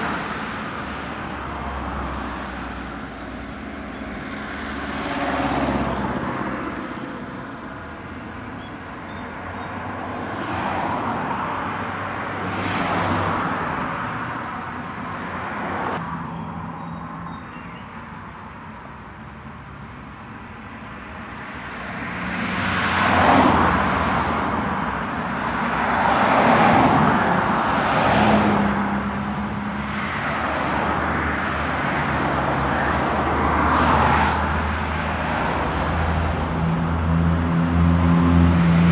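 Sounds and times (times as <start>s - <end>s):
vehicles passing: 0.0s - 38.9s.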